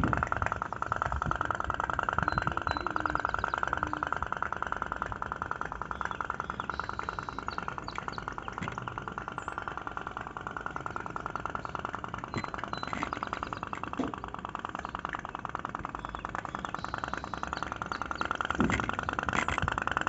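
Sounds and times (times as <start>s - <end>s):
toy steam boat putt-putting: 0.0s - 20.0s.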